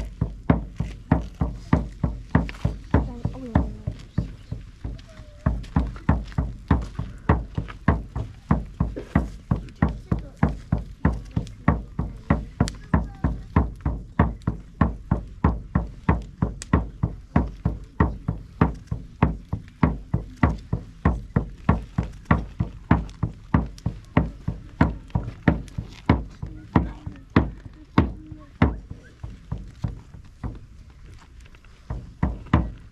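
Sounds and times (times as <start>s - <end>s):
drum beaten steadily: 0.0s - 31.0s, 31.7s - 32.9s.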